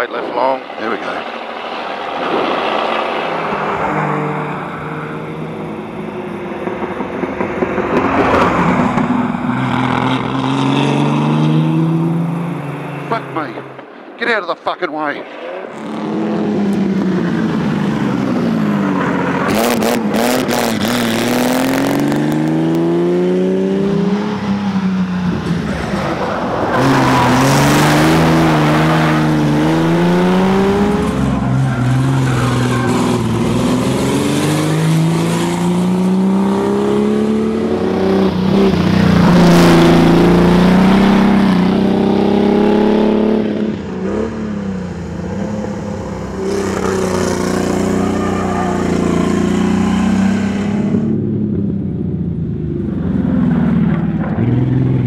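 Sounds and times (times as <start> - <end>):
car engine revving: 0.0 - 14.0, 15.2 - 55.0
road and tyre noise: 0.0 - 55.0.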